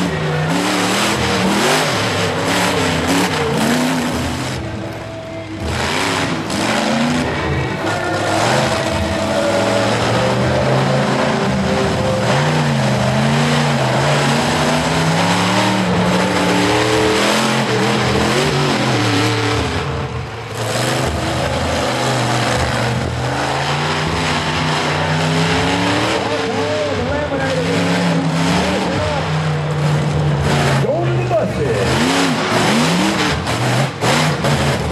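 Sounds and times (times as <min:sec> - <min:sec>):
monster truck engine revving: 0:00.0 - 0:34.9.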